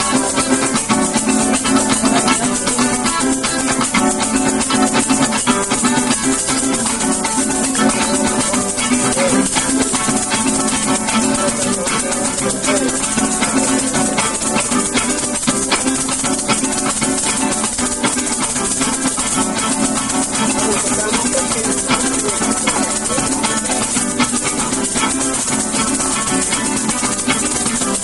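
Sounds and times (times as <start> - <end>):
maracas shaking: 0.0 - 28.0
plucked strings: 0.0 - 28.0.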